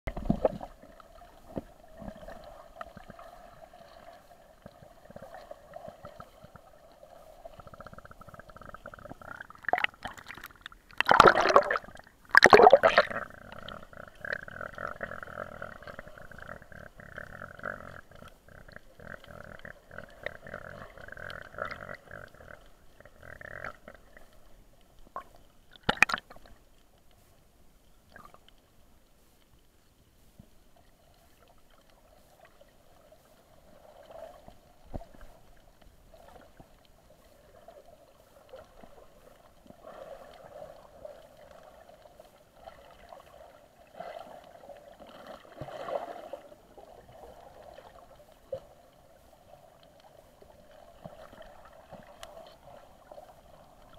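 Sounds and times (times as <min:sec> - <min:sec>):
underwater water gurgling: 0:00.1 - 0:27.3, 0:27.9 - 0:28.8, 0:29.8 - 0:53.9.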